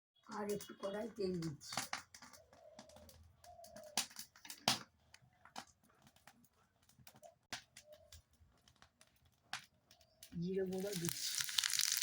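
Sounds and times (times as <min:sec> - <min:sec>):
hot oil crackling and popping: 0:00.2 - 0:12.0.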